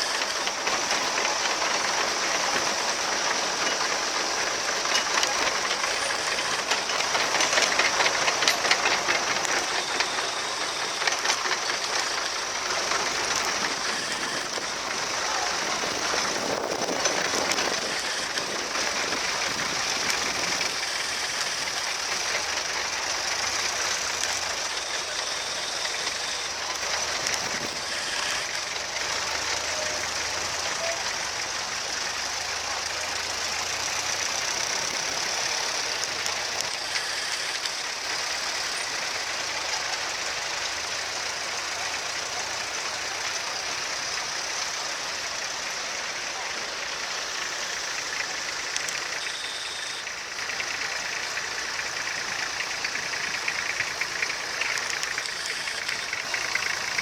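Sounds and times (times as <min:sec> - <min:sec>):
constant hiss: 0:00.0 - 0:57.0
tractor engines knocking: 0:00.0 - 0:57.0.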